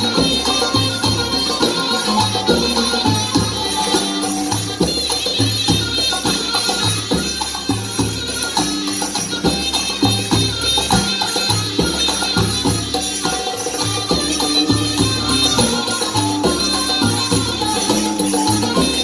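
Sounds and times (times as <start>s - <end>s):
steady drum beat: 0.0s - 19.0s.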